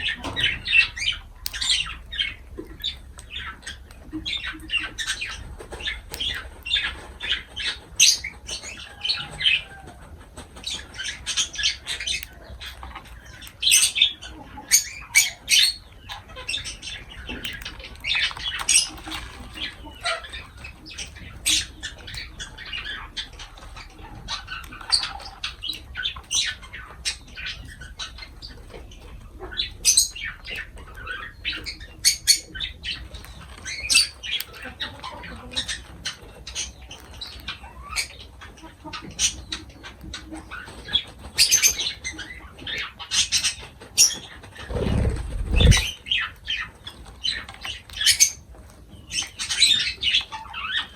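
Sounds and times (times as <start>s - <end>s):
lovebirds chirping and squawking: 0.0s - 50.9s.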